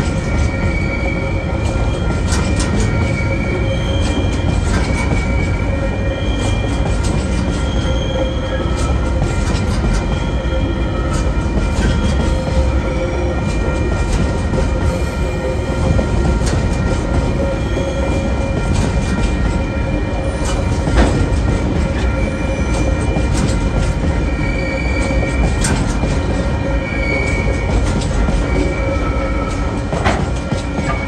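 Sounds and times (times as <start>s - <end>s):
high wheel squeal: 0.0s - 31.0s
train wheels rumbling on rails: 0.0s - 31.0s.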